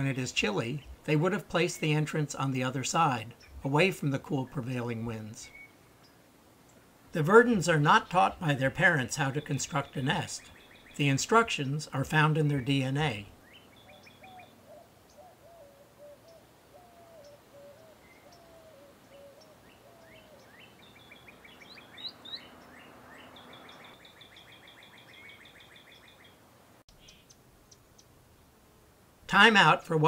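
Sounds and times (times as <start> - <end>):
birds calling low notes: 0.0 - 28.2.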